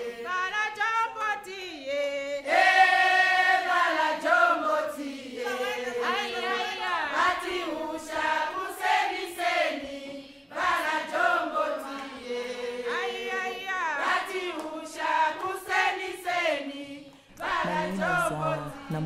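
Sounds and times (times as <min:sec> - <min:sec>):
group singing chant-like song: 0:00.0 - 0:19.0.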